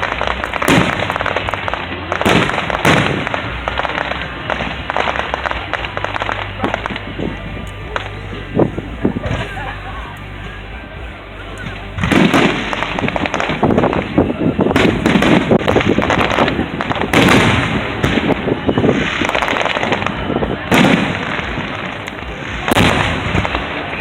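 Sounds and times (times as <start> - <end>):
firework shells booming: 0.0 - 10.9, 11.5 - 24.0
fireworks crackling and popping: 0.0 - 24.0.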